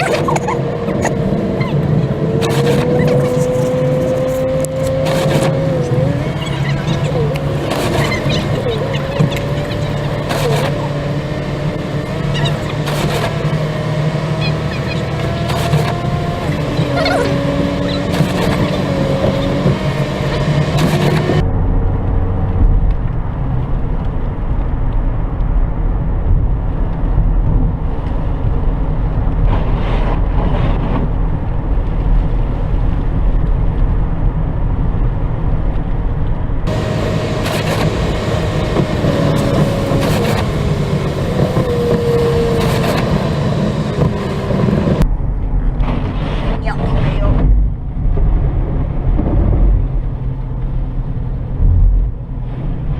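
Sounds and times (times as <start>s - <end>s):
road and engine rumble in car: 0.0s - 52.9s.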